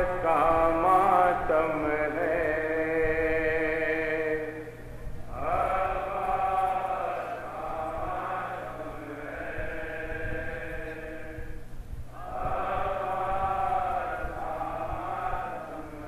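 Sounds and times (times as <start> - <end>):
men chanting into a microphone: 0.0 - 16.0.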